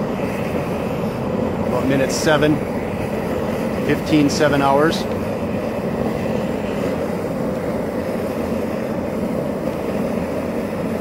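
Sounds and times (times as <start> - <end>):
torch burning with deep rushing: 0.0 - 11.0.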